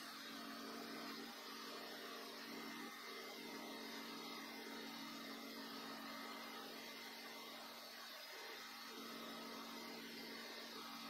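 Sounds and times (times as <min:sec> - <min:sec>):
wood lathe motor hum: 0:00.0 - 0:11.0.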